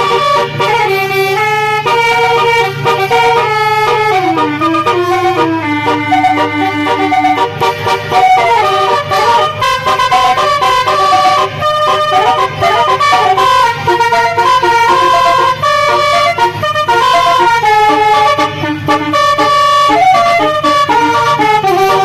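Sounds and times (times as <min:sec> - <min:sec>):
musical bus horn melody: 0:00.0 - 0:22.0.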